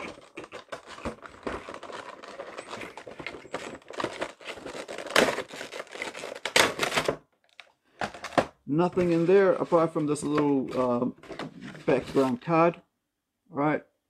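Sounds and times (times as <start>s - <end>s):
packaging crinkling and rustling: 0.0s - 12.6s.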